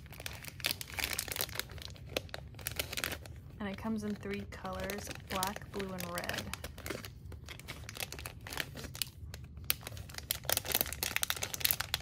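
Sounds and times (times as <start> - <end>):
plastic package crinkling: 0.0 - 12.0.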